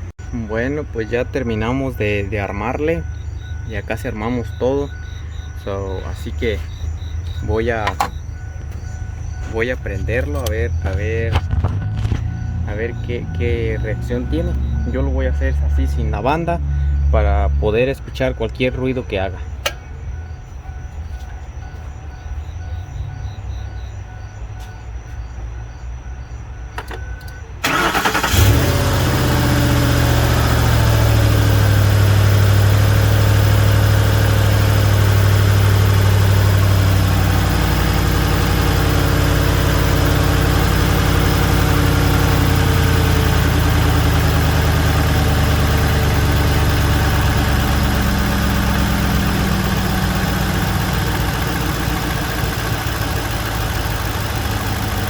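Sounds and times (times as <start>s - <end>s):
engine starting and idling: 0.6s - 17.0s, 26.8s - 55.0s.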